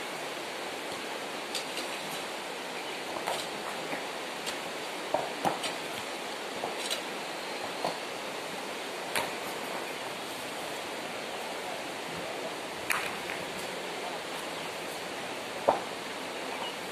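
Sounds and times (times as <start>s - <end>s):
water rushing over rocks: 0.0s - 16.9s.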